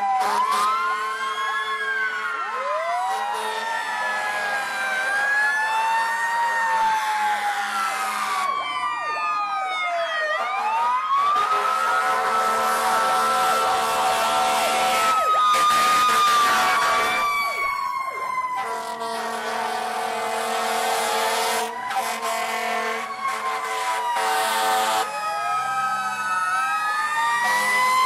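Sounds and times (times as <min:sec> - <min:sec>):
fire truck sirens wailing: 0:00.0 - 0:28.0
steady held siren tone: 0:00.0 - 0:28.0.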